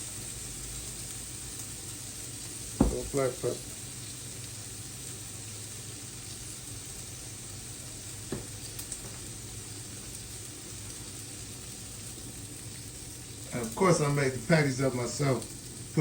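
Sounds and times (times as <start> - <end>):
meat sizzling on grill: 0.0 - 16.0.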